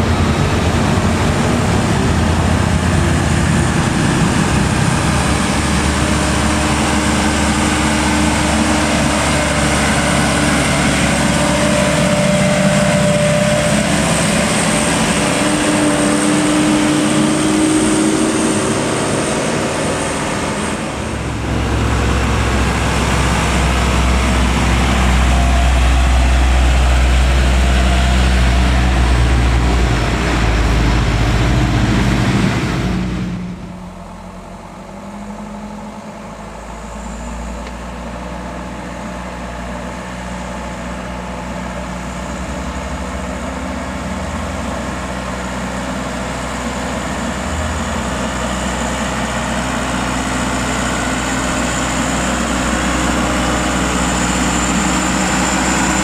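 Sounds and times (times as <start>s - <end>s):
deep truck engine rumble: 0.0s - 56.0s
truck diesel engine pulling uphill: 0.0s - 56.0s.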